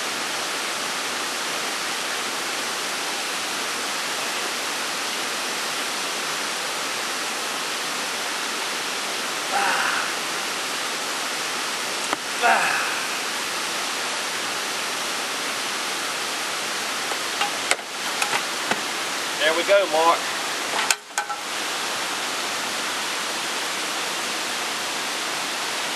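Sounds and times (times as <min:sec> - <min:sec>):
steady rushing noise: 0:00.0 - 0:25.9.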